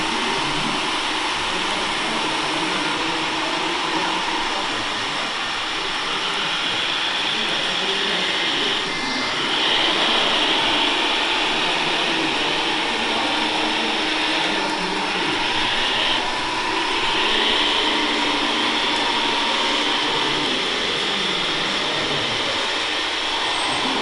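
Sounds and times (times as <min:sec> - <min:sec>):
toy truck electric motor whining: 0:00.0 - 0:24.0.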